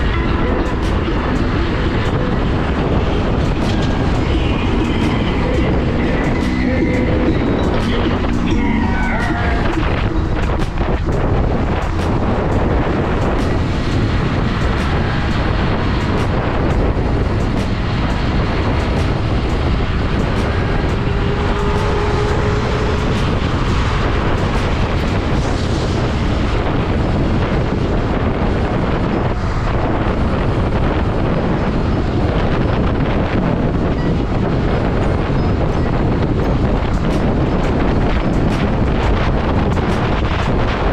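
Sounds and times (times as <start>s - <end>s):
wind over microphone: 0.0s - 40.9s.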